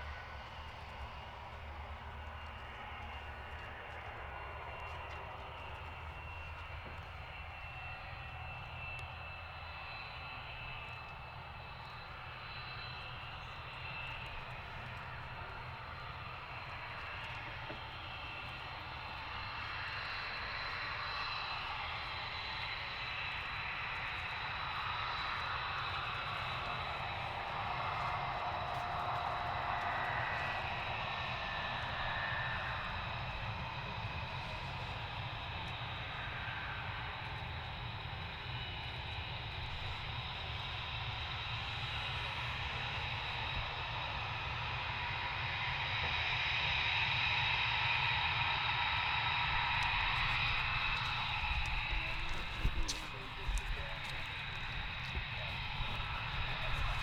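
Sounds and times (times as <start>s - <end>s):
aircraft engines whining: 0.0s - 57.0s.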